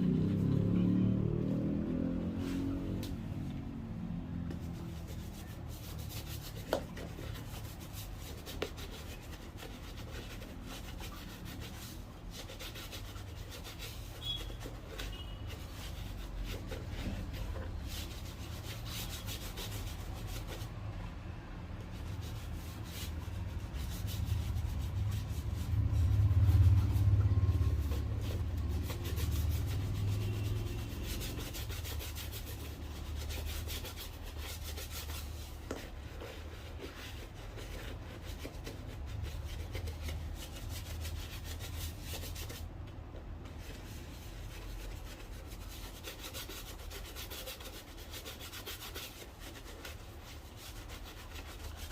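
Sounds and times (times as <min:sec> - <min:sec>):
brush scrubbing a shoe: 0:01.9 - 0:21.0, 0:21.8 - 0:51.9.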